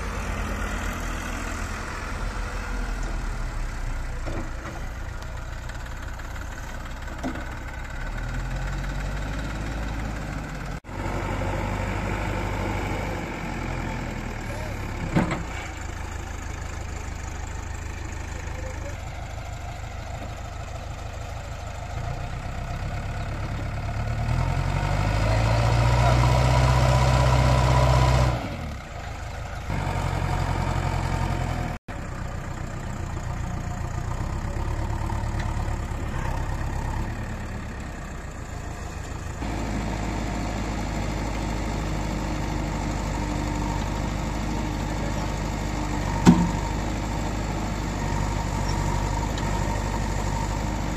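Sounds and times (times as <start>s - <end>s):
diesel engine revving: 0.0s - 19.7s, 21.7s - 50.9s.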